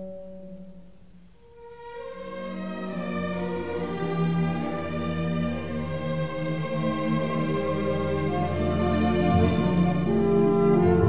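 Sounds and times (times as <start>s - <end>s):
symphony orchestra playing chords: 2.0s - 11.0s.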